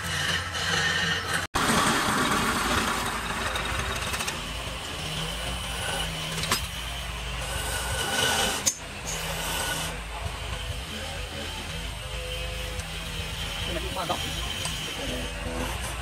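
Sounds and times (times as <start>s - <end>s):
gouge scraping spinning wood: 0.0s - 16.0s
lathe motor humming: 0.0s - 16.0s.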